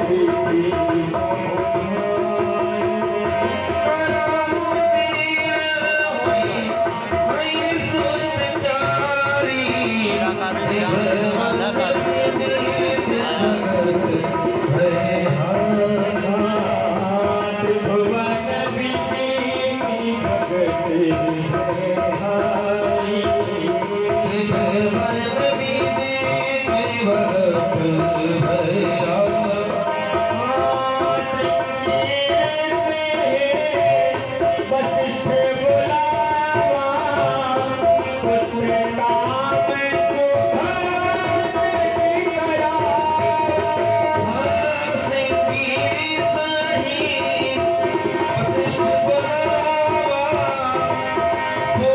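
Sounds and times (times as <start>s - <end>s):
metallic jingle beat: 0.0s - 51.9s
tabla drumming: 0.0s - 51.9s
wavering instrumental melody: 0.0s - 51.9s.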